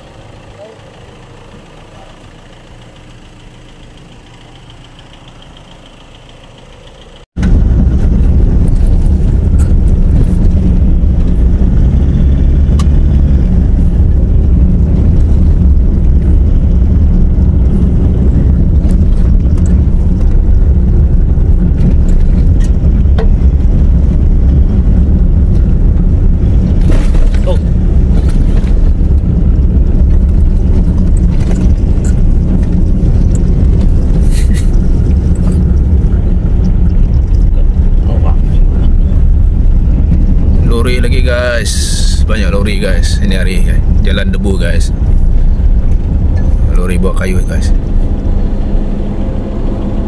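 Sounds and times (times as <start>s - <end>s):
heavy vehicle rumble: 0.0s - 50.0s
vehicle cabin hum: 0.0s - 50.0s.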